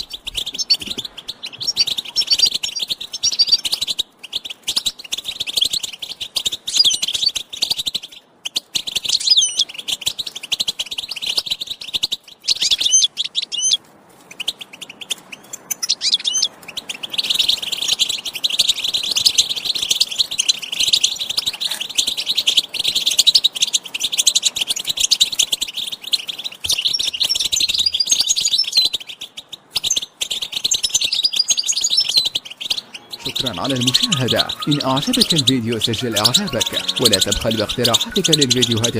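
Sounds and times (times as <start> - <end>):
finches chirping and twittering: 0.0 - 38.9.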